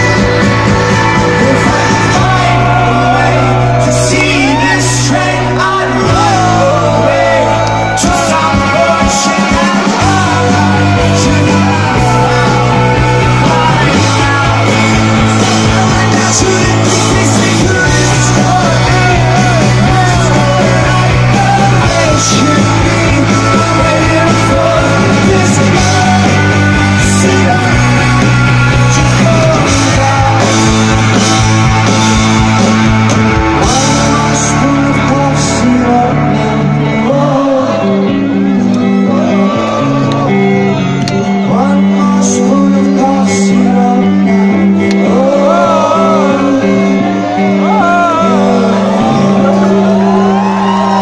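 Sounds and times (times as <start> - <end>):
live rock band playing: 0.0 - 51.0
person singing: 0.0 - 51.0.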